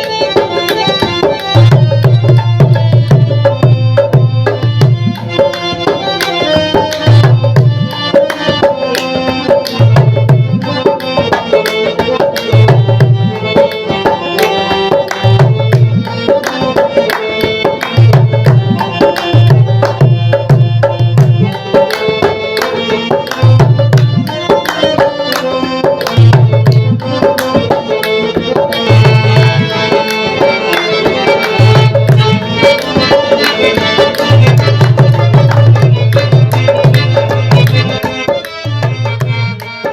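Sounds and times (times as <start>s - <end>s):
melodic instrumental line: 0.0s - 39.9s
tabla and drums beat: 0.0s - 39.9s.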